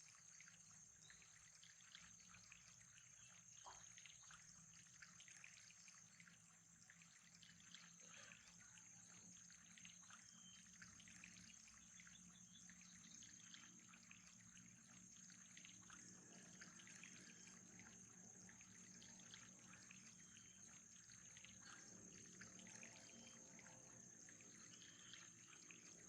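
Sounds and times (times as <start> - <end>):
trickle of water: 0.0 - 26.0.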